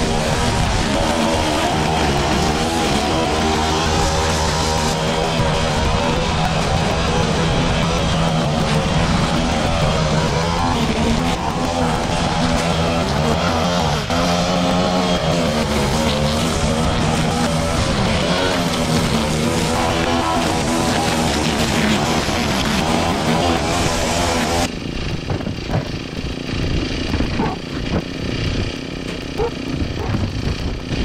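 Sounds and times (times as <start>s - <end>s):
string trimmer cutting grass: 0.0s - 31.0s.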